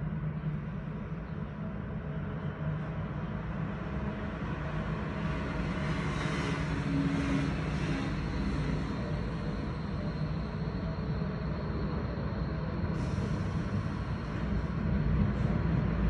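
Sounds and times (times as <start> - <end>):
tram rumbling on tracks: 0.0 - 16.0.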